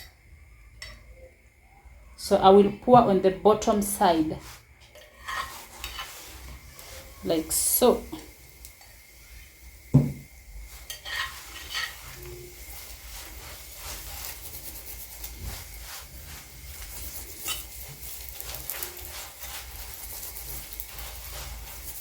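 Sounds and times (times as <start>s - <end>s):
flatbread sizzling in oil: 2.2s - 22.0s.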